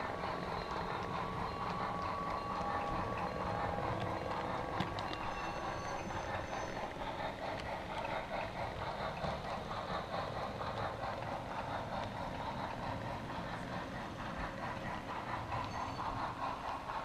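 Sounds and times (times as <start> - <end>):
model train whirring rattle: 0.0 - 17.0.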